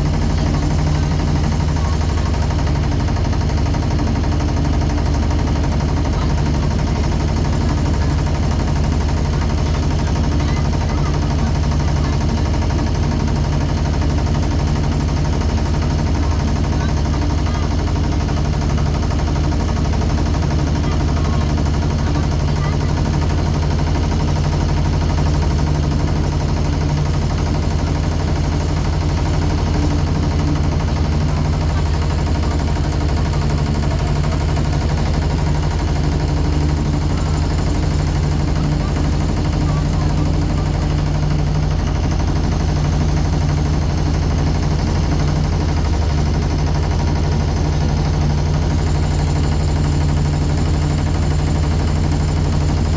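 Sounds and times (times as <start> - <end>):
motorboat engine droning: 0.0 - 52.9.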